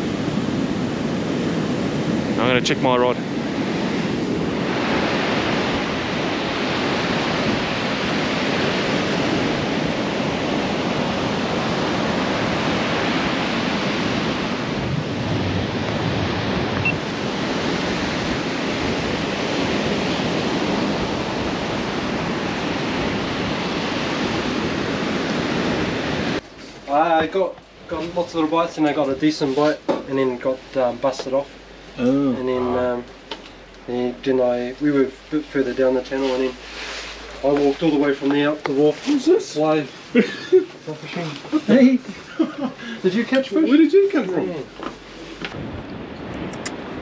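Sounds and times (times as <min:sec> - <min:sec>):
heavy surf breaking: 0:00.0 - 0:47.0
wind buffeting microphone: 0:03.2 - 0:40.2, 0:41.7 - 0:47.0.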